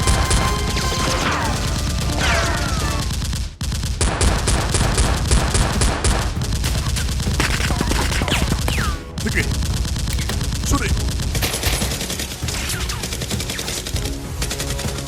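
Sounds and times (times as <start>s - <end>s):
rapid automatic gunfire: 0.0s - 15.0s.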